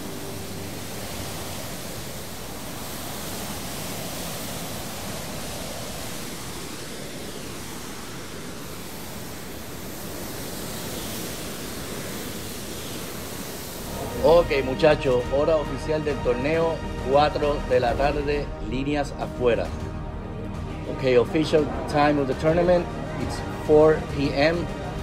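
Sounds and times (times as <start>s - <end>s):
sea water rushing: 0.0s - 25.0s.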